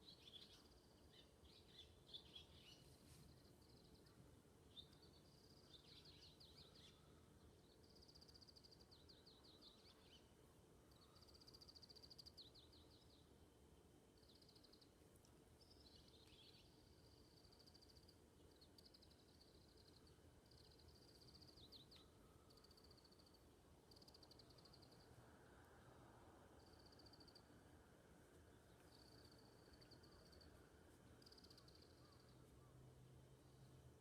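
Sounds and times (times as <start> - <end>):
songbird singing: 0.0 - 13.4, 14.1 - 15.0, 15.6 - 34.0.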